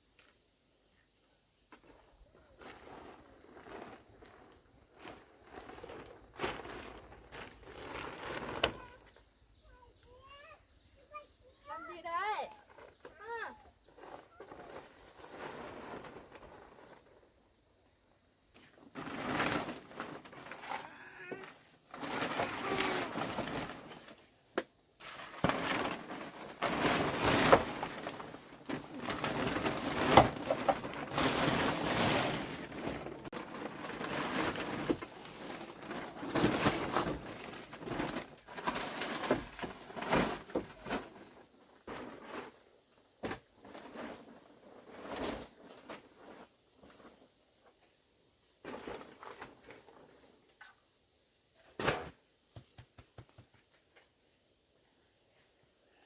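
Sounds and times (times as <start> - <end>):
insects droning: 0.0 - 56.0
rustling scraping and knocking: 1.8 - 9.3, 11.1 - 17.4, 18.6 - 47.8, 48.6 - 50.4.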